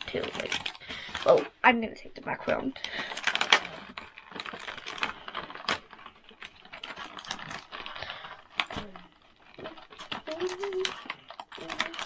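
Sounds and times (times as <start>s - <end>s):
packaging rustling: 0.0s - 1.6s, 2.3s - 12.0s.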